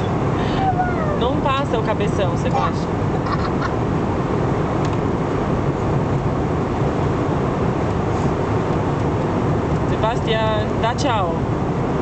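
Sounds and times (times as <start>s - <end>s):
airliner cabin engine rush: 0.0s - 12.0s.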